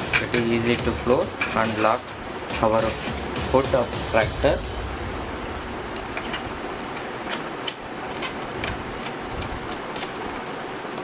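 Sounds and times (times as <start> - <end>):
steady hiss: 0.0 - 10.9.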